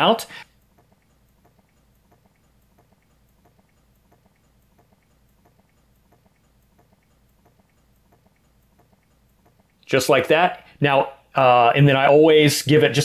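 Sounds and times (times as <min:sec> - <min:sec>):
low hum: 0:00.0 - 0:11.3
soft regular ticking: 0:00.0 - 0:13.0.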